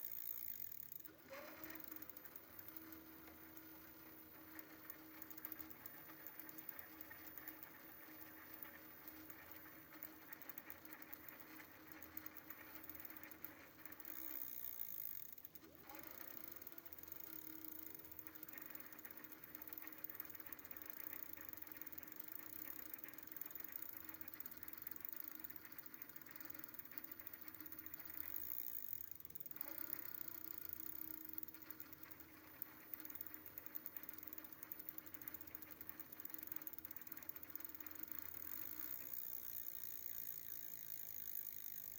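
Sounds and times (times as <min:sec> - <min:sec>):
electric hub motor whirring: 0:00.0 - 0:41.9.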